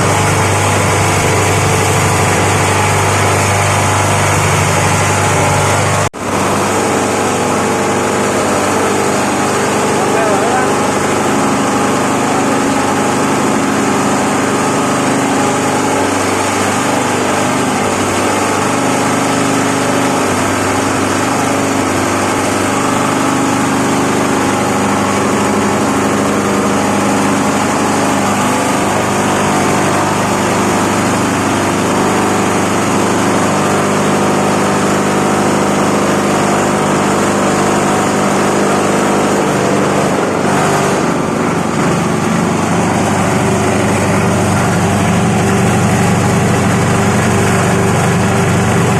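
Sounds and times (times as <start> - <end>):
chopping machine droning: 0.0 - 48.9.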